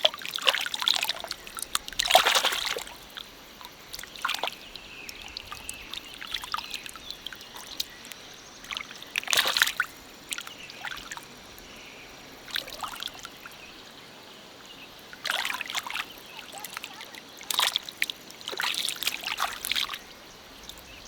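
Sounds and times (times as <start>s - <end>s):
water splashes: 0.0s - 14.0s, 14.6s - 21.0s
stream water trickling: 0.0s - 21.0s.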